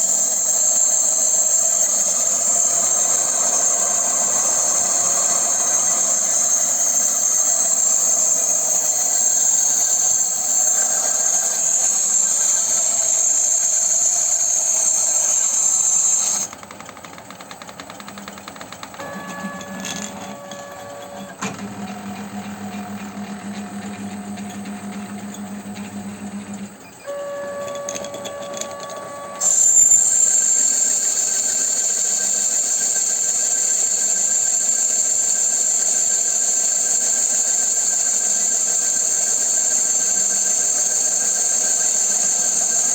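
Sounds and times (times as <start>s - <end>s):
lathe cutting hiss: 0.0s - 42.9s
lathe motor hum with whine: 0.0s - 42.9s.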